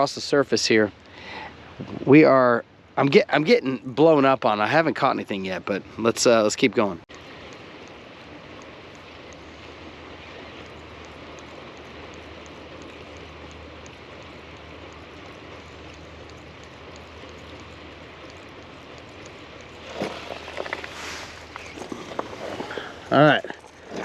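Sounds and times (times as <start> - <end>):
waterside ambience hiss: 0.0 - 24.0
faint regular ticking: 4.2 - 24.0.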